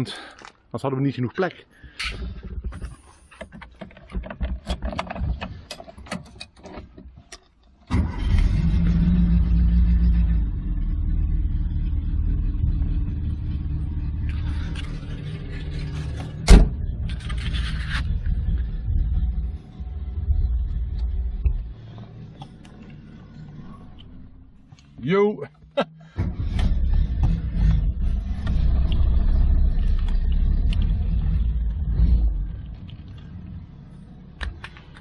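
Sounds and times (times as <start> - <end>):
car engine starting and idling: 1.9 - 35.0.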